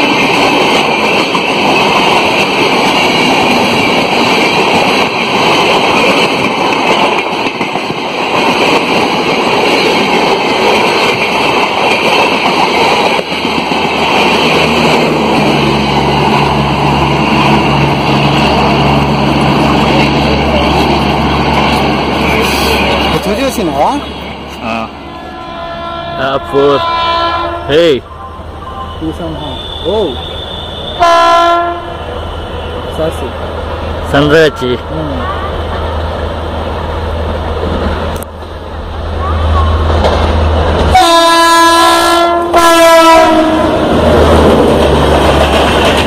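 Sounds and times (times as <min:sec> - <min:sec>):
train coaches rushing past: 0:00.0 - 0:46.0.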